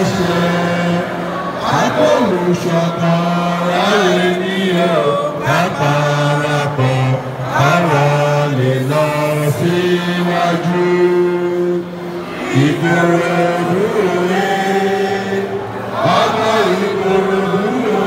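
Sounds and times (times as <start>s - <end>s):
group singing an anthem: 0.0s - 18.0s
man singing through a microphone: 0.0s - 18.0s.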